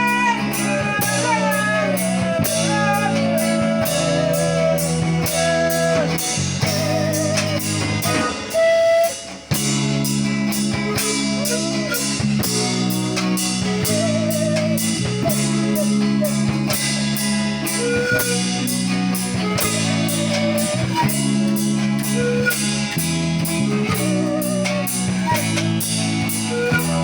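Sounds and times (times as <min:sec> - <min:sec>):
guitar: 0:00.0 - 0:27.0
pan pipes: 0:00.0 - 0:27.0
steady beat: 0:00.0 - 0:27.0.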